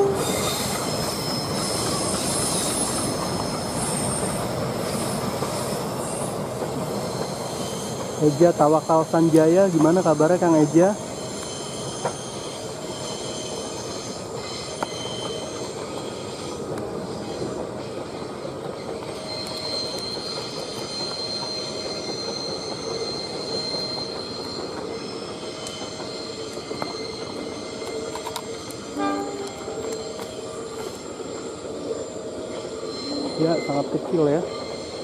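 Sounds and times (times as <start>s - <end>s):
high wheel squeal: 0.0s - 35.0s
train wheels rumbling on rails: 0.0s - 35.0s.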